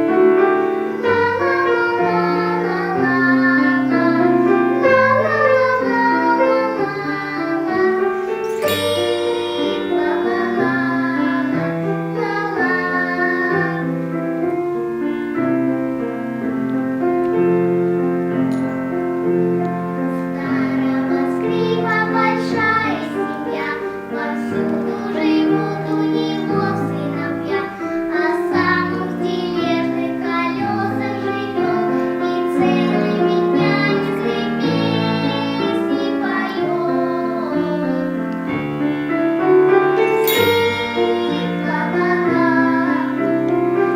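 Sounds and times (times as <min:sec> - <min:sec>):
piano accompaniment: 0:00.0 - 0:43.9.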